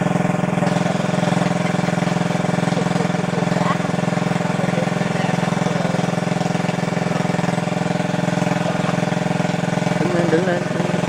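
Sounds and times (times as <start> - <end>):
small engine driving water pump: 0.0 - 11.0.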